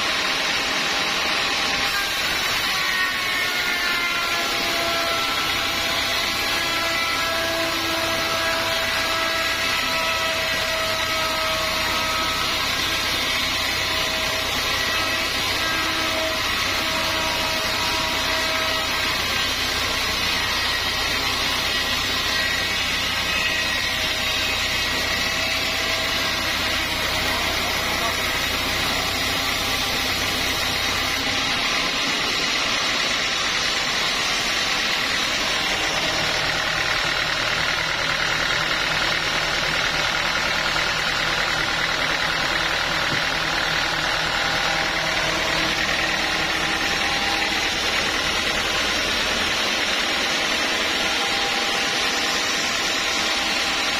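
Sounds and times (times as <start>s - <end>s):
sawmill machinery drone: 0.0s - 53.9s.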